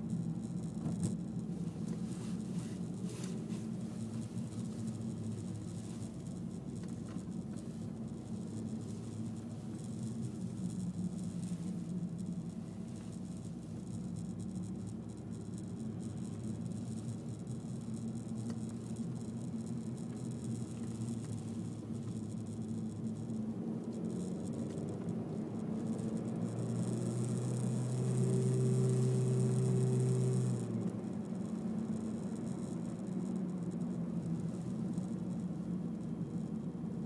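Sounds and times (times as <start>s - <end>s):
car engine inside cabin: 0.0s - 37.0s
loud steady engine drone: 0.0s - 37.0s
road noise: 0.0s - 37.0s.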